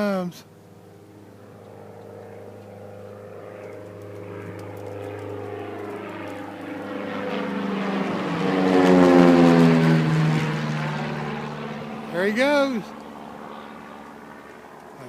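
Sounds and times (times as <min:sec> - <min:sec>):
propeller plane flying over: 0:00.0 - 0:15.0.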